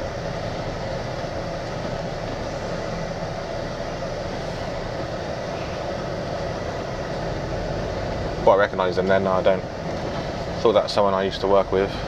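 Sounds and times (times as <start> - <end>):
lorry engine hum from inside cab: 0.0 - 12.0.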